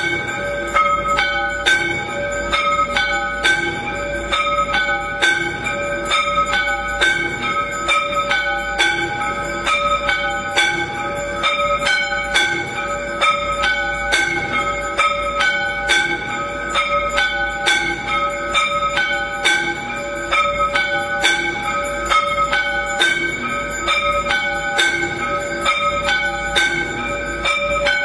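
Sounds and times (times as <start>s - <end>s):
temple bells ringing: 0.0s - 28.0s.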